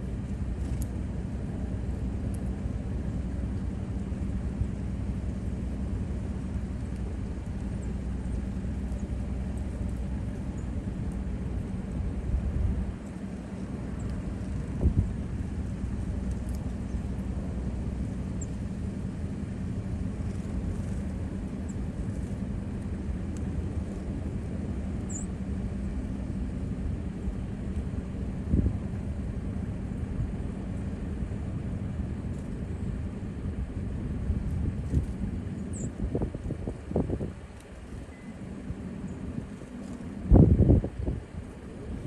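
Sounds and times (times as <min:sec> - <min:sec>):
low outdoor rumble: 0:00.0 - 0:42.0.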